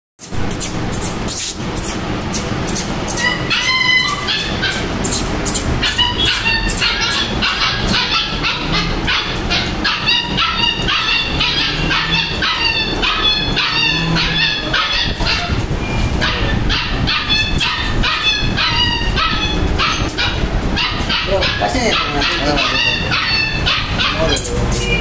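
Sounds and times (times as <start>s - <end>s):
puppies yelping and whimpering: 1.8s - 25.0s.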